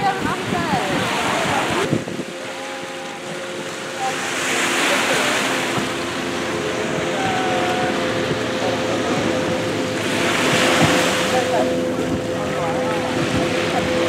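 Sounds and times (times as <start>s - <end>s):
outboard engine drone: 0.0s - 14.0s
surf washing on beach: 0.0s - 14.0s
wind on microphone: 0.0s - 14.0s.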